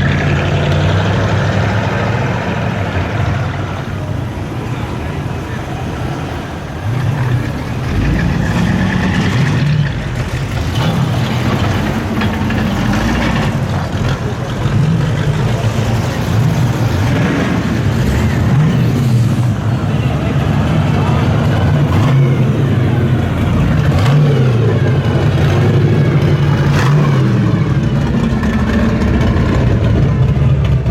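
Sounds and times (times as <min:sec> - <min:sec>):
car engines revving: 0:00.0 - 0:30.9.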